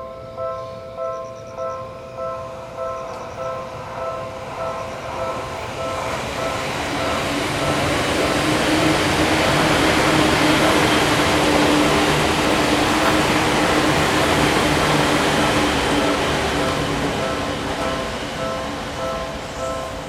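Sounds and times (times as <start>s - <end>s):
railroad crossing bell dinging: 0.0s - 20.0s
train passing: 0.0s - 20.0s.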